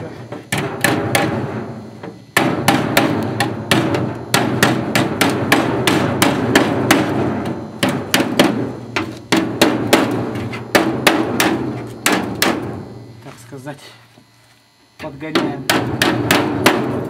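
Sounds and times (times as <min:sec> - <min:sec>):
hammer tapping sheet steel: 0:00.5 - 0:12.8, 0:15.0 - 0:17.0.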